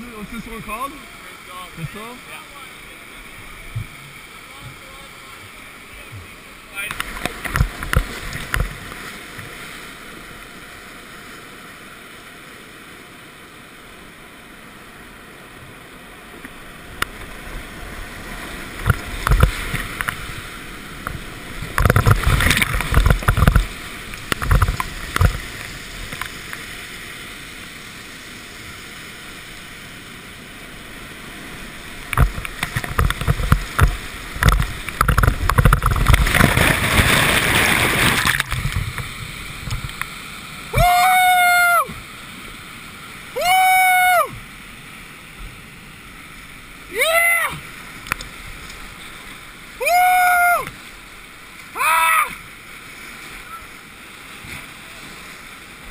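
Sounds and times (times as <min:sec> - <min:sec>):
water splashing surges: 0:00.0 - 0:55.9
whitewater rapid roaring: 0:00.0 - 0:55.9.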